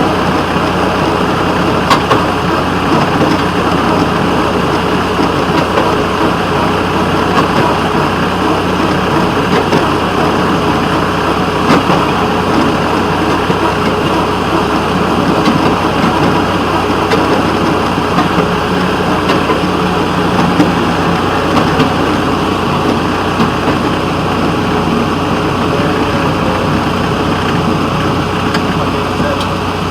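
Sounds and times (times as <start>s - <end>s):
locomotive engine running: 0.0s - 29.9s.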